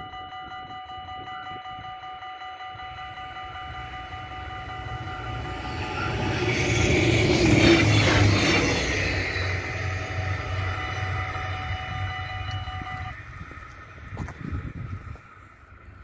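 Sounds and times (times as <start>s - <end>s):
level-crossing bells ringing: 0.0s - 13.2s
diesel train approaching: 0.0s - 16.0s.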